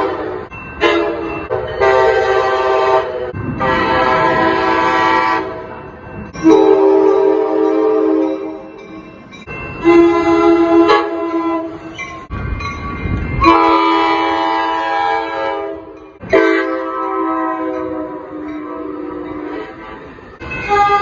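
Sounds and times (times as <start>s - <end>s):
locomotive air horn blasts: 0.0s - 5.7s, 6.4s - 8.7s, 9.8s - 11.9s, 13.4s - 20.0s, 20.7s - 21.0s.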